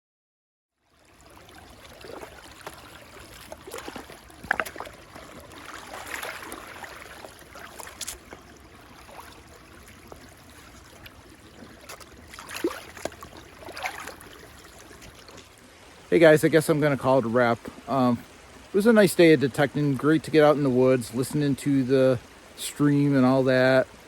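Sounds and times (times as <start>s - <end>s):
water rushing over rocks: 1.2s - 24.0s.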